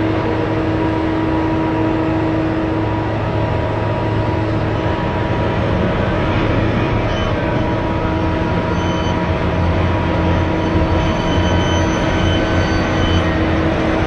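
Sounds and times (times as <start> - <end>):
heavy vehicle engine drone: 0.0 - 14.0.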